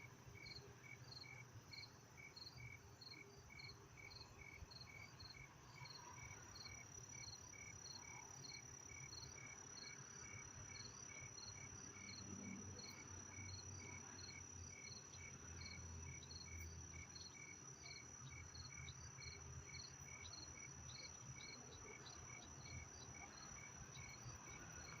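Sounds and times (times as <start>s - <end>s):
crickets chirping: 0.3s - 25.0s.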